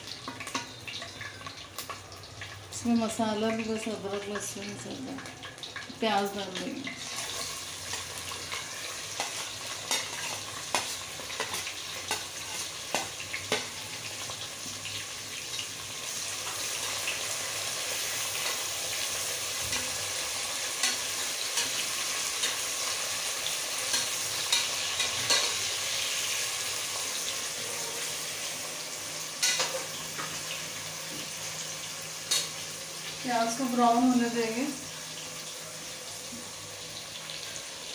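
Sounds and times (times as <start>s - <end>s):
onions sizzling in oil: 0.0s - 37.9s.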